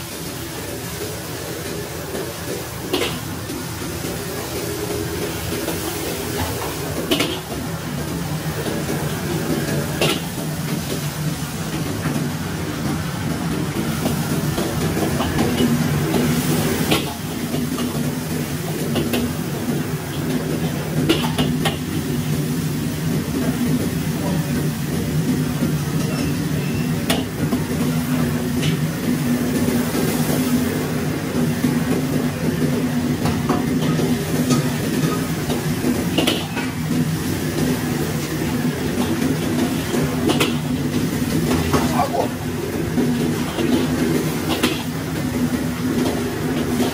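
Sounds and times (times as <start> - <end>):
broth boiling: 0.0 - 46.9
gas burner roaring: 0.0 - 46.9.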